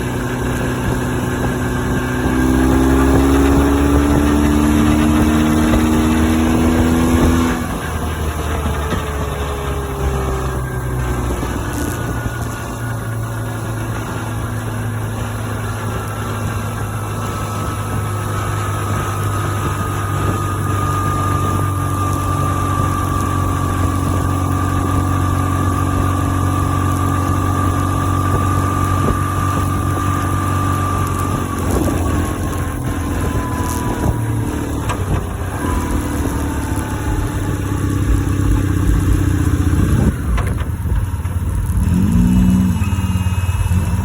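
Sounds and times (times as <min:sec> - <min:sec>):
high whine: 0:00.0 - 0:44.0
motorcycle engine running: 0:00.0 - 0:44.0.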